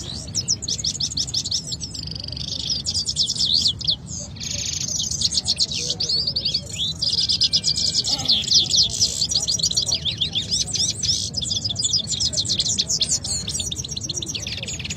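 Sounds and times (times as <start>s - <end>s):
canaries singing trills: 0.0s - 14.9s.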